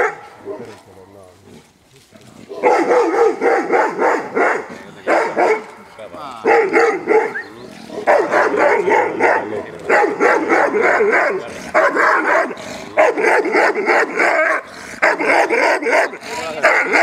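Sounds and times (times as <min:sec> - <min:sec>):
large dog barking fast: 0:00.0 - 0:00.7, 0:02.5 - 0:05.8, 0:06.4 - 0:17.0.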